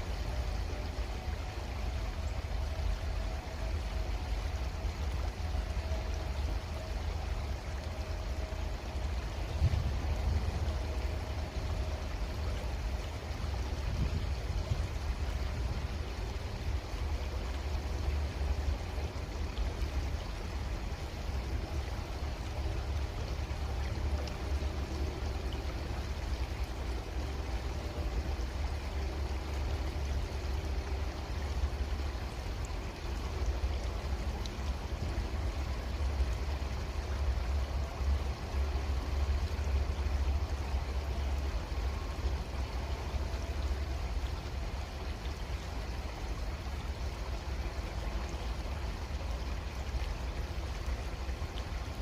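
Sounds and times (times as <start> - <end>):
creek water flowing: 0.0 - 52.0.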